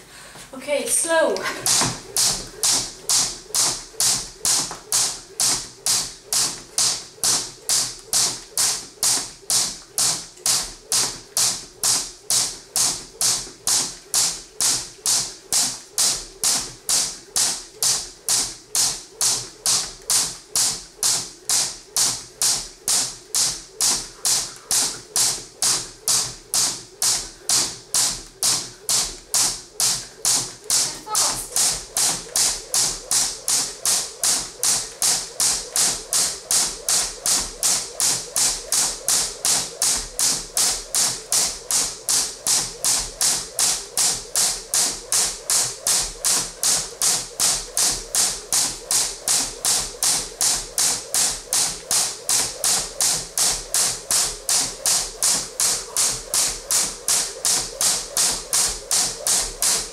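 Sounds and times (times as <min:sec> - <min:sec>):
jump rope slapping the floor: 0:00.9 - 0:59.9.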